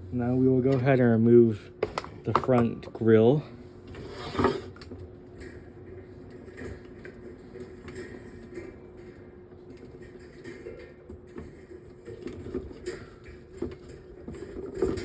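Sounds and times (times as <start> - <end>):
handling noise on metal fan grille: 0.0 - 15.0.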